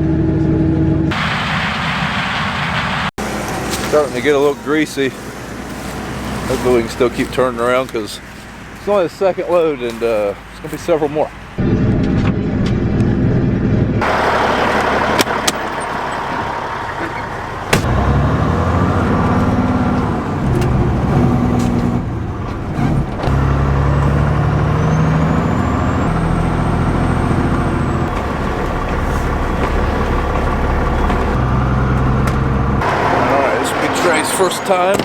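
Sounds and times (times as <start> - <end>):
diesel truck engine running: 0.0 - 35.0.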